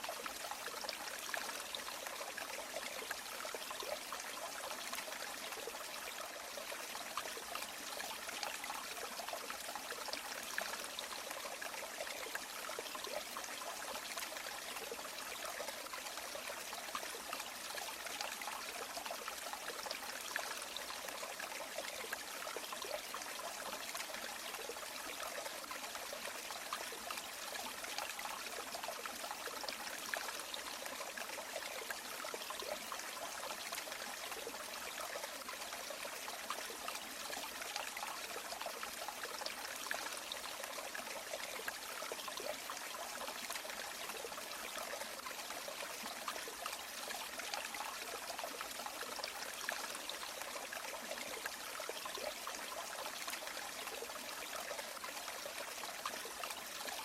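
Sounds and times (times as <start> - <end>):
water babbling over rocks: 0.0 - 57.0.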